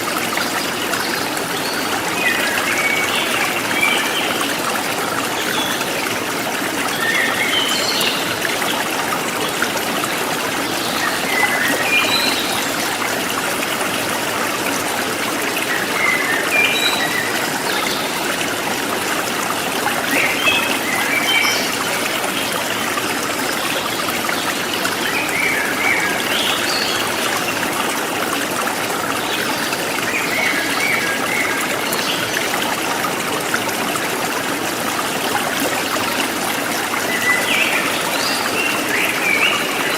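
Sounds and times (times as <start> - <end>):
stream water rushing: 0.0 - 39.9
water trickling: 0.0 - 39.9.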